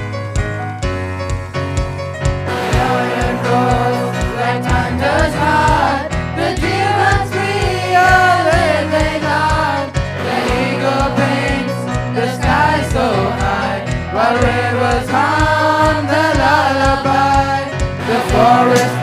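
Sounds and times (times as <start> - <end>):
backing music with steady beat: 0.0 - 19.0
choir singing: 2.5 - 19.0.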